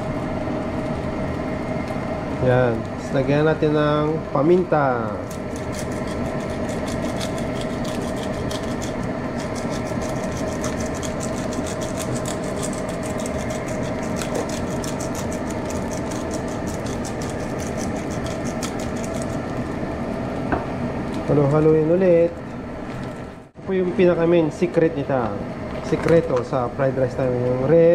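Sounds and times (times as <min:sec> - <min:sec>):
steady hum: 0:00.0 - 0:27.9.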